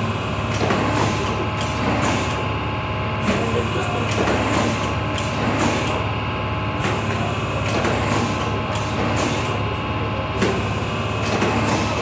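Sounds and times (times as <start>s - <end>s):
printing machine humming: 0.0s - 12.0s.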